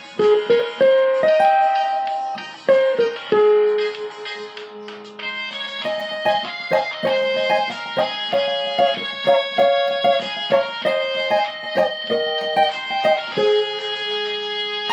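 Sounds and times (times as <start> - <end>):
cavaquinho playing plucked melody: 0.0 - 4.8, 5.8 - 14.2.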